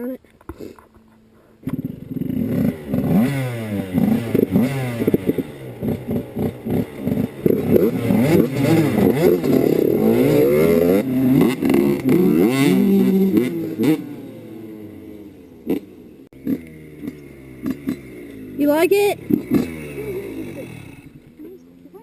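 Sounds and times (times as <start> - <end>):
dirt bike engine revving: 1.6 - 22.0.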